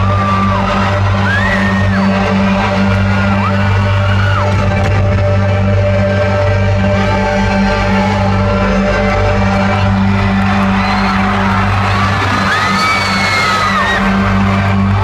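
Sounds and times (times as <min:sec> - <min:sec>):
crowd screaming and whooping: 0:00.0 - 0:05.2, 0:06.0 - 0:15.0.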